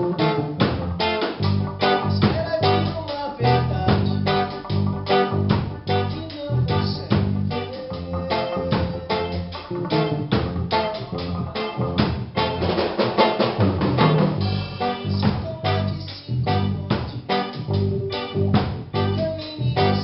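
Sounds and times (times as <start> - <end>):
reggae band playing: 0.0 - 20.0
strong bass line: 0.0 - 20.0.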